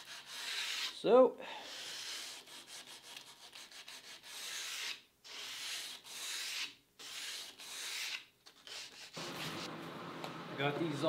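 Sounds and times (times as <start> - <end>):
sandpaper rubbing wood: 0.0 - 1.0, 1.6 - 9.7.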